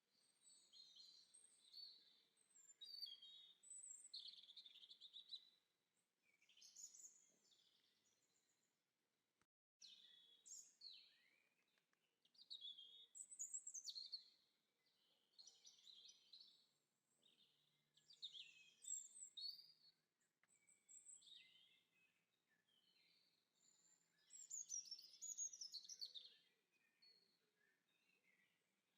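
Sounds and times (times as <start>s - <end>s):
songbirds chirping and warbling: 0.1s - 8.7s, 9.8s - 28.9s.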